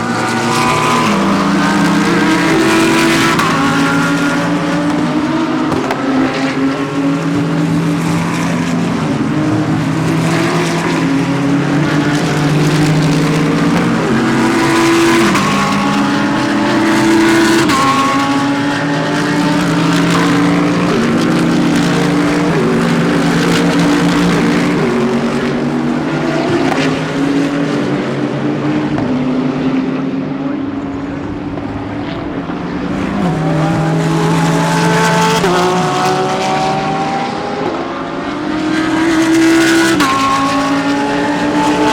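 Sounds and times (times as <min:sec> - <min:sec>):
engine upshifts: 0:00.0 - 0:41.9
race car engines accelerating: 0:00.0 - 0:41.9.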